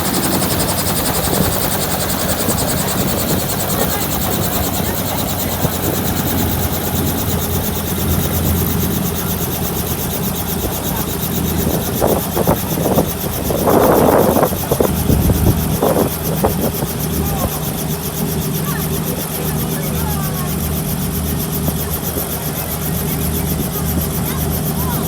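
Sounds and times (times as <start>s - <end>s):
helicopter rotor drone: 0.0s - 25.0s.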